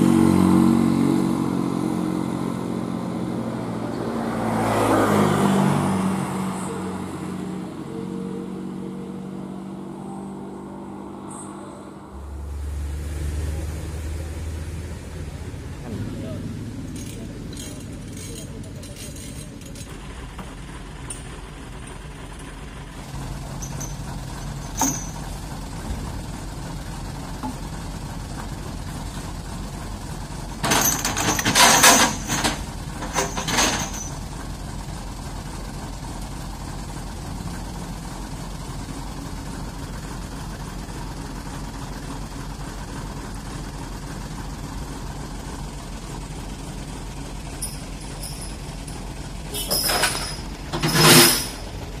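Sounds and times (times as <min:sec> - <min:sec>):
diesel engine idling: 0:05.6 - 0:52.0.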